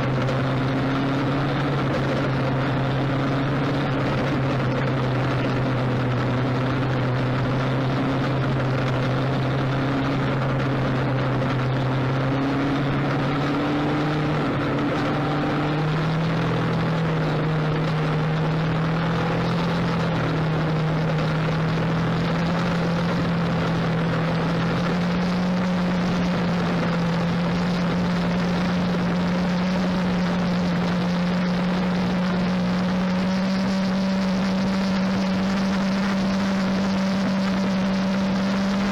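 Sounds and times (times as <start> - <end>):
engine drone: 0.0 - 38.9.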